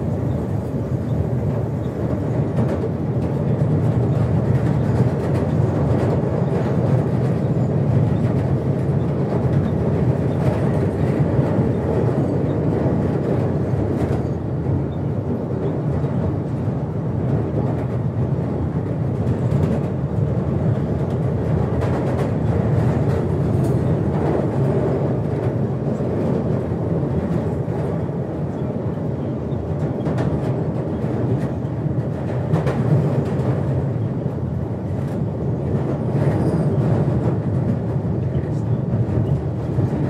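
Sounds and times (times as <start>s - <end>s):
train wheels rumbling: 0.0s - 40.0s.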